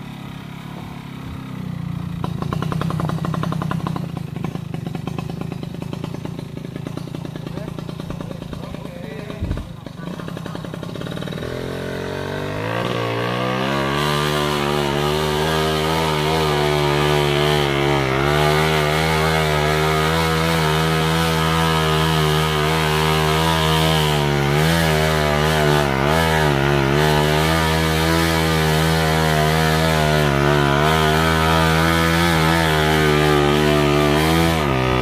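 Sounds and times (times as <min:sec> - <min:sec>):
small motorcycle engine revving hard: 0:00.0 - 0:35.0.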